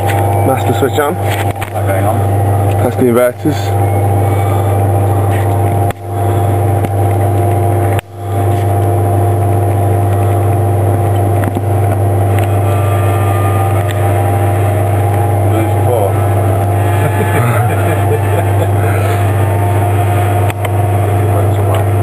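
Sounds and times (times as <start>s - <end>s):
electrical inverters humming: 0.0s - 22.0s.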